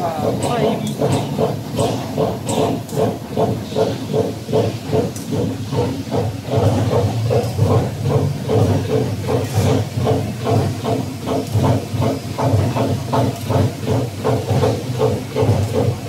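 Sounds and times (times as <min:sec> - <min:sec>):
laser cutter pulsing hiss: 0:00.0 - 0:16.0.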